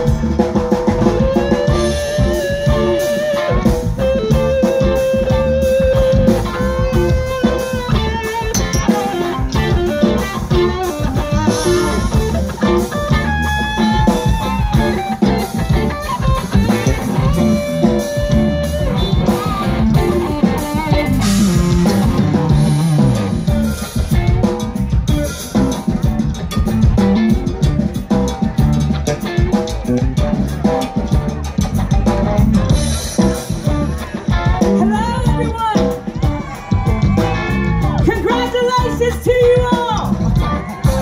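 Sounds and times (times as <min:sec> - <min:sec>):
bass guitar: 0:00.0 - 0:41.0
drum kit: 0:00.0 - 0:41.0
electric guitars: 0:00.0 - 0:41.0
held lead guitar notes: 0:00.0 - 0:41.0.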